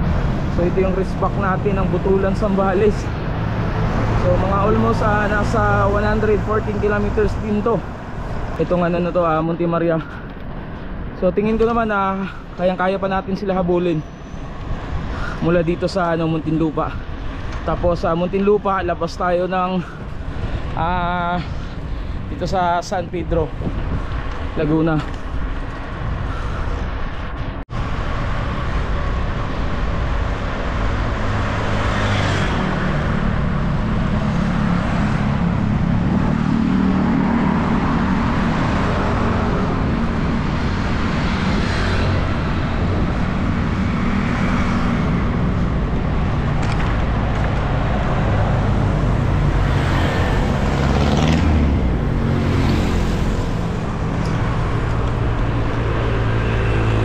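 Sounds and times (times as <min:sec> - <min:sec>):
motor vehicles passing: 0:00.0 - 0:57.0
road and wind noise: 0:00.0 - 0:57.0.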